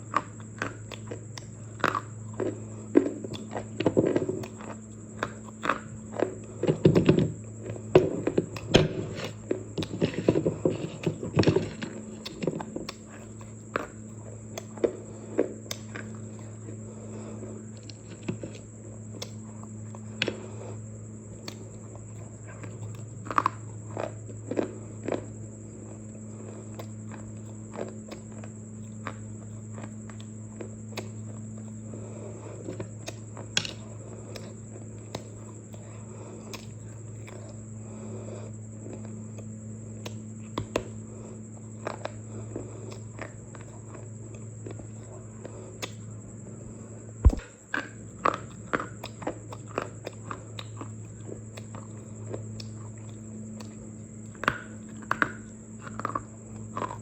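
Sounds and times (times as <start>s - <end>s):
crunchy chewing: 0.0s - 57.0s
steady low hum: 0.0s - 57.0s.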